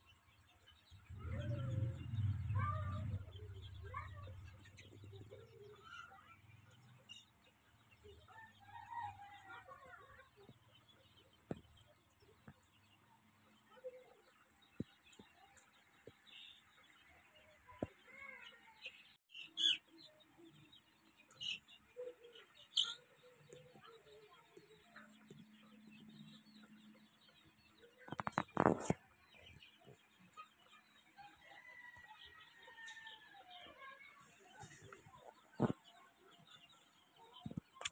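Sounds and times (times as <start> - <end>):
chicks peeping and chirping: 0.0 - 37.9.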